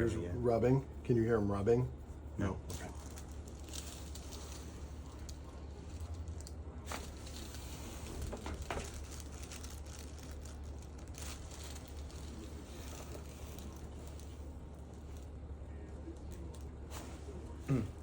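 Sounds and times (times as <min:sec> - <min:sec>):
steady low hum: 0:00.0 - 0:18.0
soft rustling and scraping: 0:00.9 - 0:17.7.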